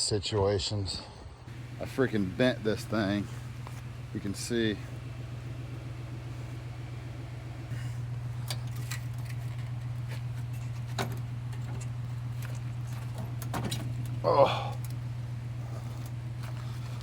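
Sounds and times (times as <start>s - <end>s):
pickup truck engine idling: 1.5s - 17.0s.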